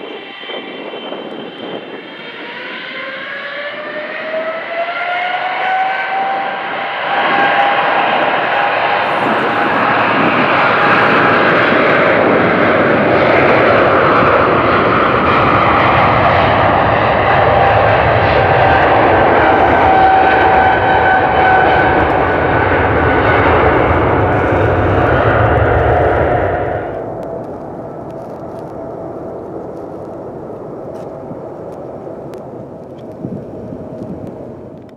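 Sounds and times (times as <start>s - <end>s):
high whining engine tones: 0.0s - 34.9s
jet engines rushing at takeoff: 0.0s - 34.9s.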